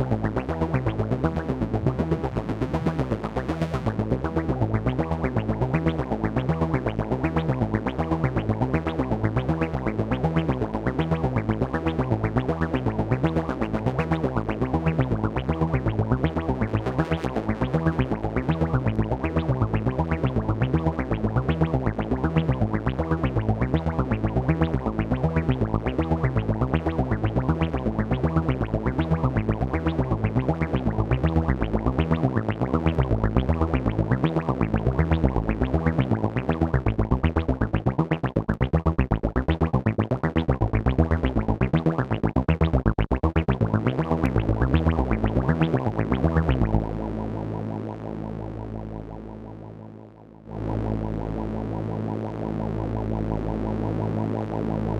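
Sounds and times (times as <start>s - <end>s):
stepping synth bass line: 0.0s - 54.9s.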